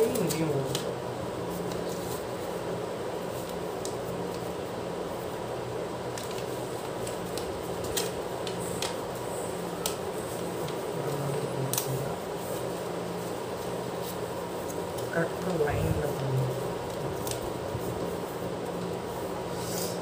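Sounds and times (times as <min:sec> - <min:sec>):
paper folding and crinkling: 0:00.0 - 0:05.4, 0:06.0 - 0:19.4
steady hum and hiss: 0:00.0 - 0:20.0.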